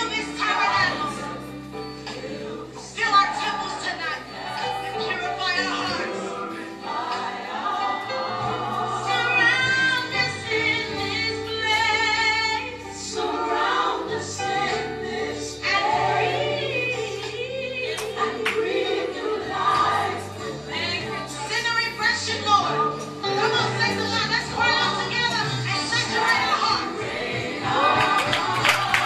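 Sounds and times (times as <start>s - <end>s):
choir singing gospel: 0.0s - 29.0s.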